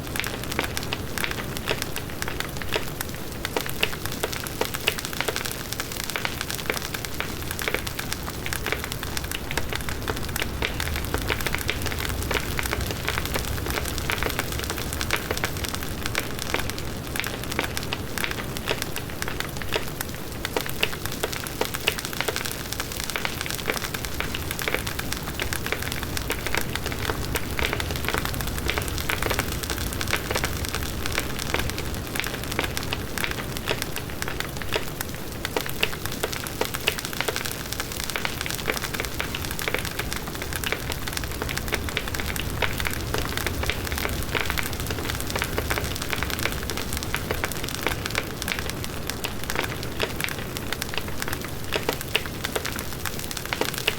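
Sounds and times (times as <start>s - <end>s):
wood crackling and popping: 0.0s - 53.9s
bonfire flames rushing: 0.1s - 53.9s.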